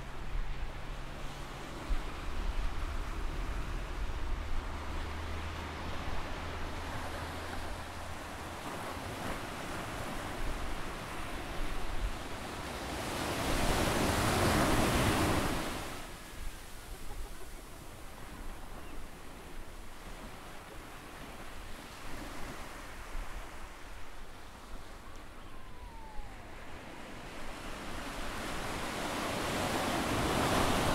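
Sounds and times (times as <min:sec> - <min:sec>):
small waves washing on sand: 0:00.0 - 0:25.8, 0:26.4 - 0:30.9.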